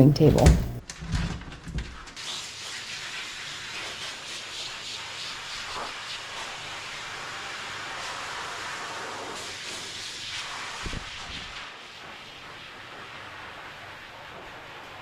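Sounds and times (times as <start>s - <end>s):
water spraying from sprayer: 2.2s - 15.0s.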